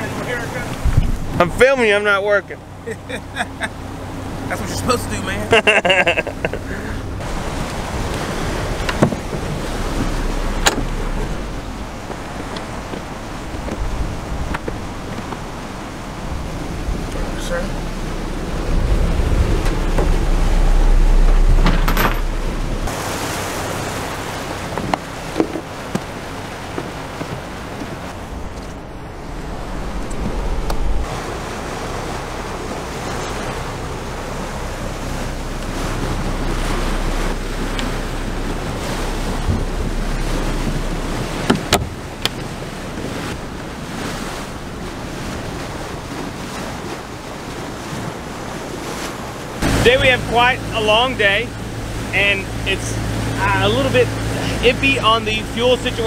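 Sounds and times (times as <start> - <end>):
wind buffeting the microphone: 0.0 - 1.6, 6.4 - 50.5
water washing along a hull: 0.0 - 56.0
low rumble: 5.3 - 46.4, 49.4 - 55.5.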